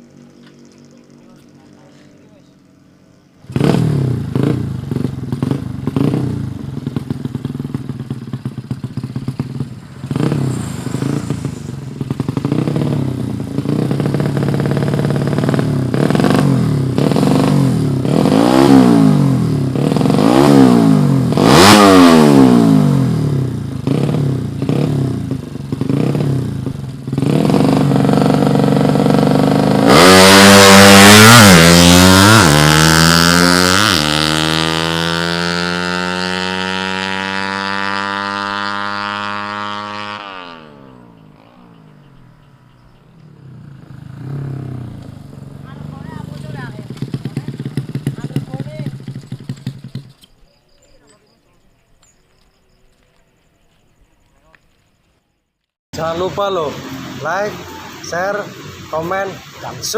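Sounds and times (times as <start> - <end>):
motorcycle engine revving: 0.0 - 51.4, 55.6 - 59.9.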